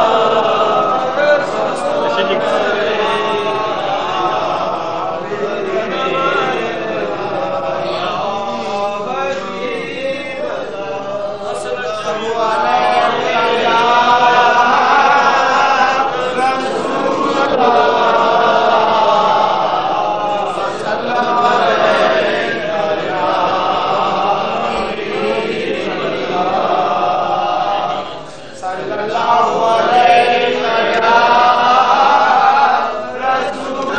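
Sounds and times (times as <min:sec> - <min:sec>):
men chanting together: 0:00.0 - 0:33.9.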